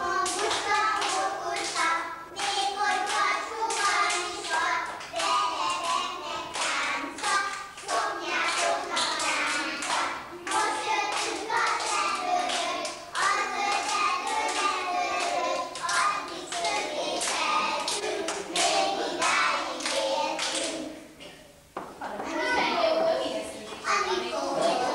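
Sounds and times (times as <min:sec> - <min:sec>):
children singing: 0:00.0 - 0:21.3, 0:22.4 - 0:24.9
hand-clapping: 0:00.2 - 0:20.8.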